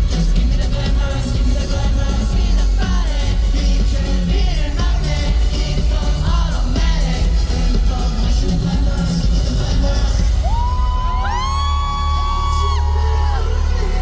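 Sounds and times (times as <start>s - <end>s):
heavy bass beat: 0.0s - 14.0s
person singing lead vocal: 0.0s - 14.0s
pop song over loudspeakers: 0.0s - 14.0s.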